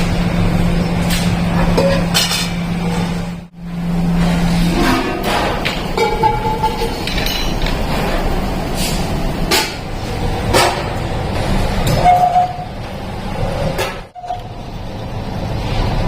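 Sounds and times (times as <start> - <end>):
workshop machinery running: 0.0 - 16.0.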